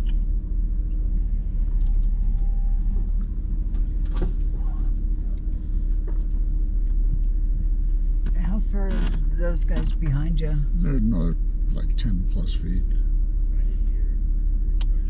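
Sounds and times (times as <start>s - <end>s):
engine low rumble: 0.0s - 15.0s.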